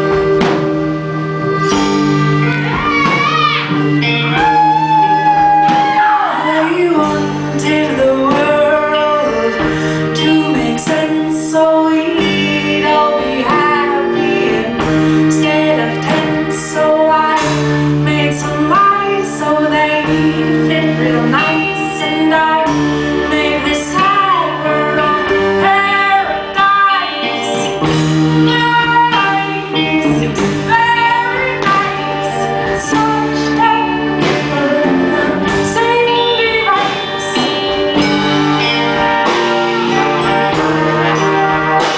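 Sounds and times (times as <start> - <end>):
live band with guitar and drums: 0.0 - 41.9
woman singing into a microphone: 4.0 - 41.9.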